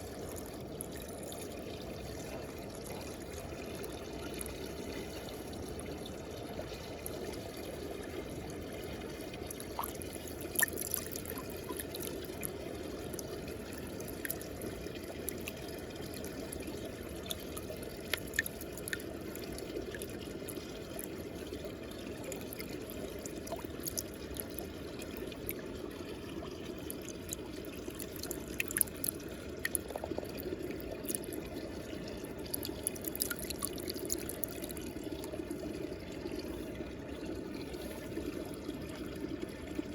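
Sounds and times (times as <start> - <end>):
drips and small splashes: 0.0 - 39.9
water swirling in a whirlpool: 0.0 - 39.9.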